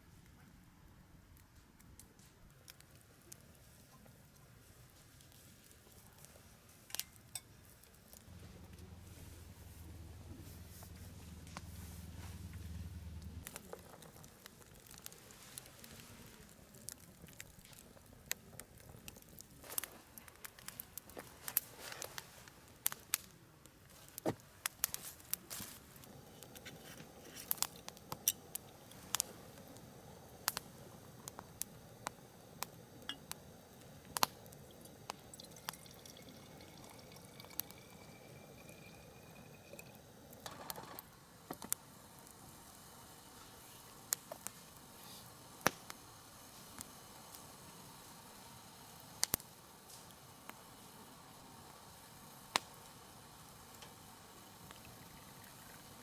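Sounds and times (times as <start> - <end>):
wood fire crackling and popping: 0.2 - 56.0.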